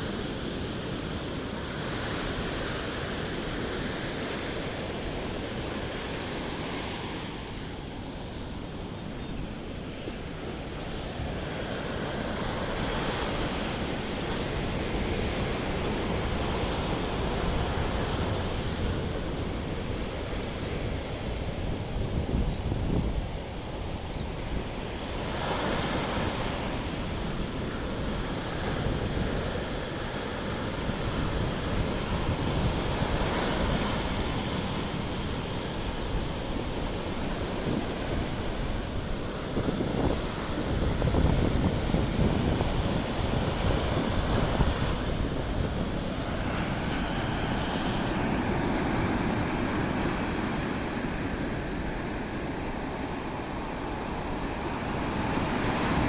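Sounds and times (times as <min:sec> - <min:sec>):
sea surf washing onto beach: 0:00.0 - 0:56.0
wind buffeting microphone: 0:00.0 - 0:56.0.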